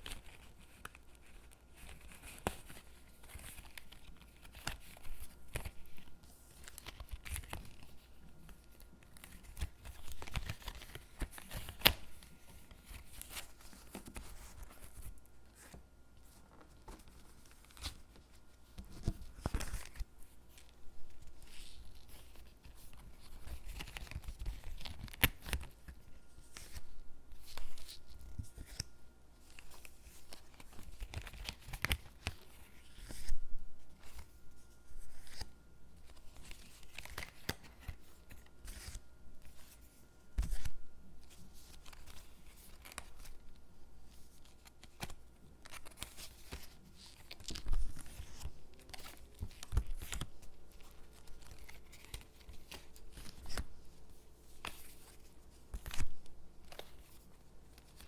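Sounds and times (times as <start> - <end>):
stickers peeling and paper rustling: 0.0 - 58.0.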